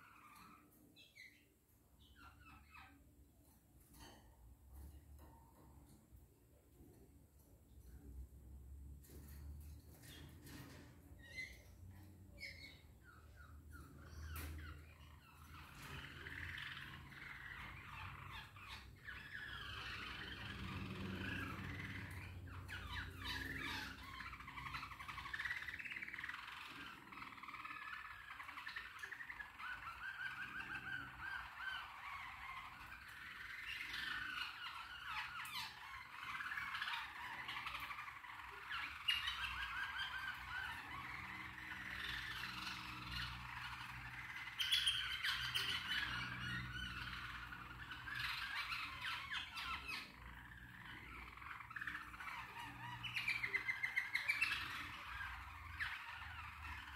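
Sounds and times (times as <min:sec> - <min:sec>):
canary singing with trills: 0:00.0 - 0:56.9.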